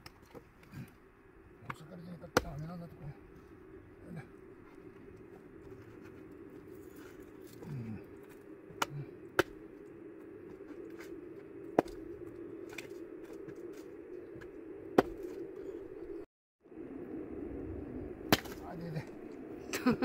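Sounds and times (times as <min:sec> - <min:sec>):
bonfire crackling: 0:00.0 - 0:16.1.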